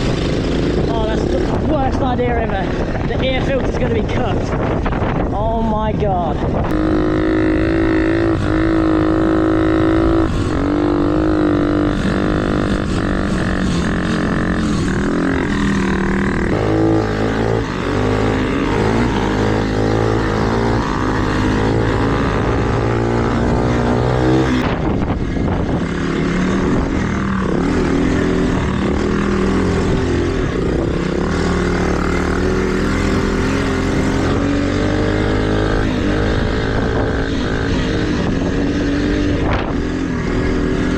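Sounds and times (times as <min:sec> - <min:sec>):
trail bike engine revving: 0:00.0 - 0:40.9.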